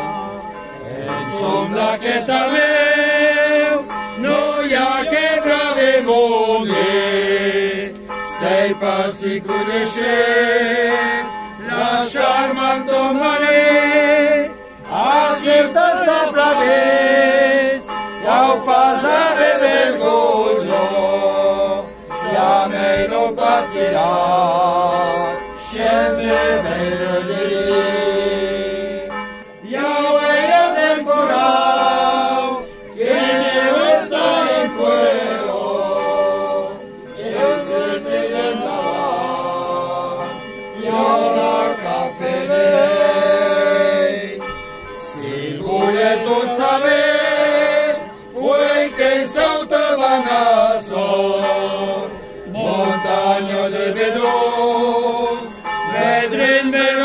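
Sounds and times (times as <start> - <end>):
group singing a carol: 0.0 - 57.0.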